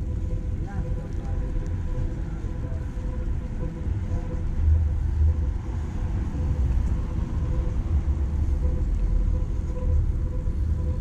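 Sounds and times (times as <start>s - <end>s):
faint steady hum: 0.0s - 11.0s
rumble of passing vehicles: 0.0s - 11.0s.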